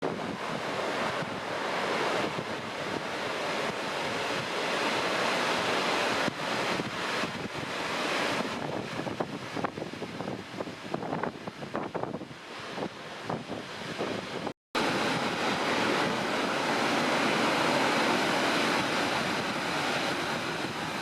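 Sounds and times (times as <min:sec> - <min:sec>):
waves crashing: 0:00.0 - 0:21.0
wind buffeting microphone: 0:00.0 - 0:21.0.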